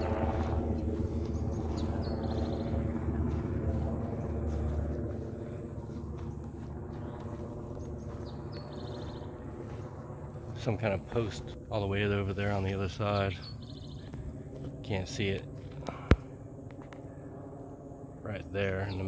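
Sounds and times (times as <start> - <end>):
distant engine drone: 0.0 - 19.0.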